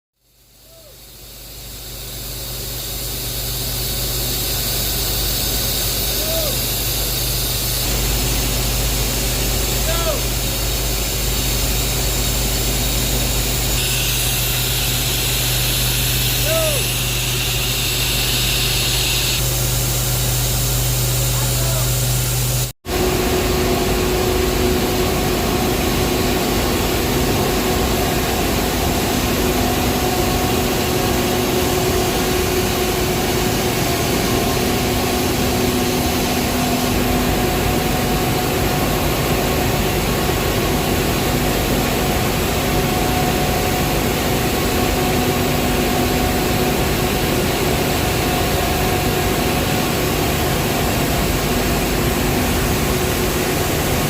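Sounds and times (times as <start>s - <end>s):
machinery running loudly: 0.3s - 54.0s.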